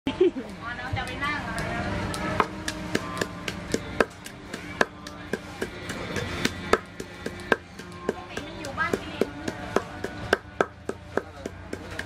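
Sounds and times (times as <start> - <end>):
wooden pestle pounding in mortar: 1.1 - 12.0.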